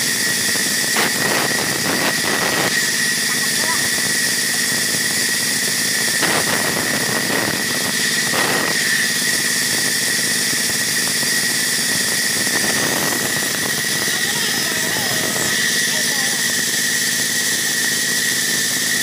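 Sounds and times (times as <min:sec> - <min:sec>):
band saw cutting wood: 0:00.0 - 0:19.0.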